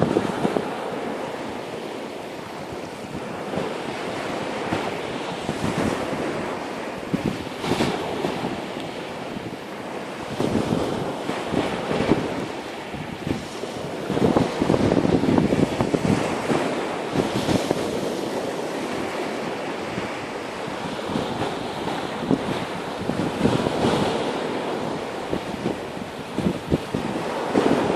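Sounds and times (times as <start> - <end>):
surf washing onto beach: 0.0 - 27.9
wind buffeting microphone: 0.0 - 27.9.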